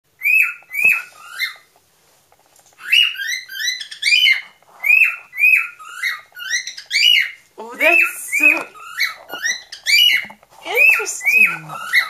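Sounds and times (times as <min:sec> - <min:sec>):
cockatiel whistling: 0:00.2 - 0:01.7, 0:02.8 - 0:12.0.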